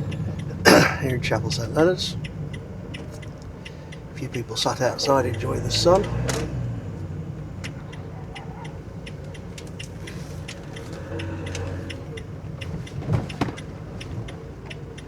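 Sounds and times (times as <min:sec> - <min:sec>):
light clicks and rattles: 0:00.0 - 0:15.0
van engine and road rumble: 0:00.0 - 0:15.0.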